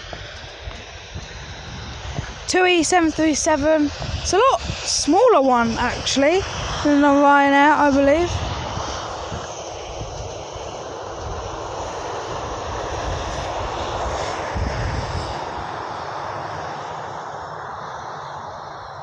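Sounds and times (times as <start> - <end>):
high engine whine: 0.0 - 19.0
jet engines running: 0.0 - 19.0.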